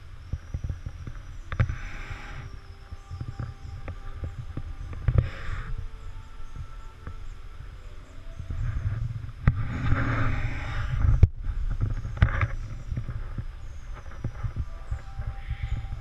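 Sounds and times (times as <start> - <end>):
faint high chirps: 0.0 - 16.0.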